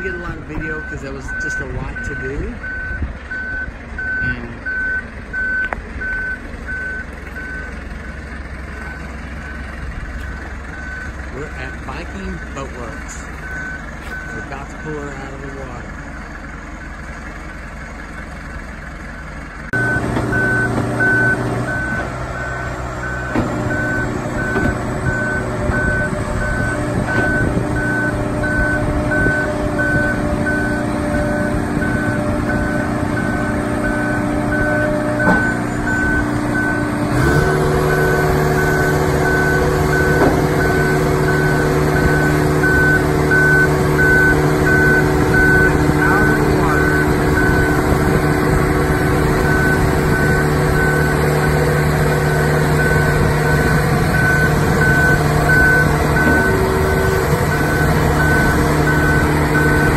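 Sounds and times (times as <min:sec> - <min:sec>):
warning alarm beeping: 0:00.0 - 0:08.2, 0:08.8 - 0:15.5, 0:19.8 - 0:47.8, 0:49.4 - 0:59.9
boat lift engine running: 0:06.4 - 0:59.9.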